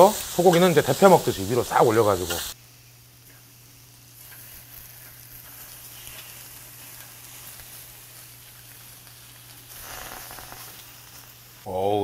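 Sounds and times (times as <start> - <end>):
food sizzling on grill pan: 0.0 - 12.0.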